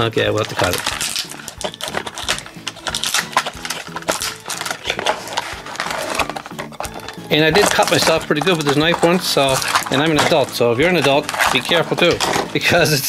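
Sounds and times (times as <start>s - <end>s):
background music: 0.0s - 13.0s
knife cutting plastic packaging: 0.0s - 13.0s.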